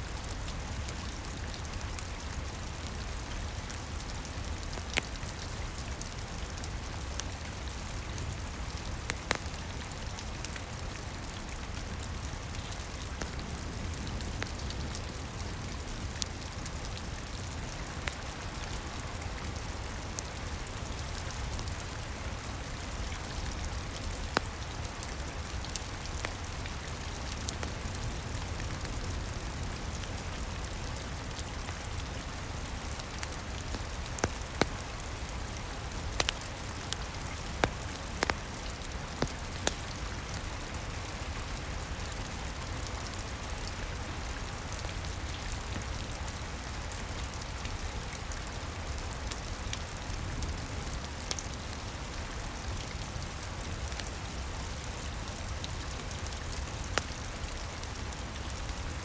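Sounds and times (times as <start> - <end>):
steady rain: 0.0 - 59.0
wood fire crackling: 0.3 - 51.8, 53.8 - 59.0.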